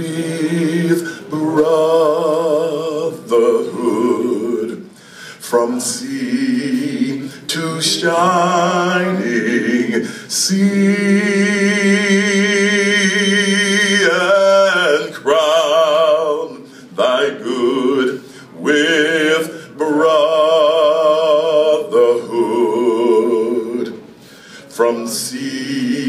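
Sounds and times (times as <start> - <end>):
man singing unaccompanied: 0.0 - 24.1, 24.7 - 26.0.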